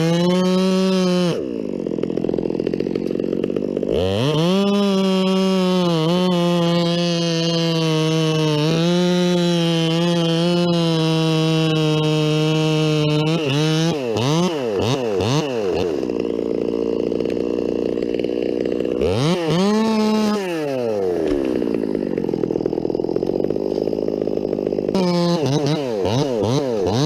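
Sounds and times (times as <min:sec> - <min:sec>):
chainsaw engine revving: 0:00.0 - 0:27.0.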